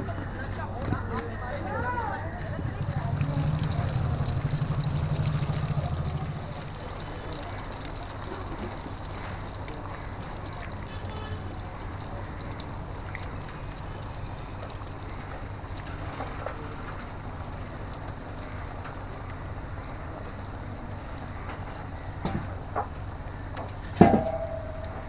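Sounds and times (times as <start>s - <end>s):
fritters sizzling in hot oil: 2.6s - 24.0s.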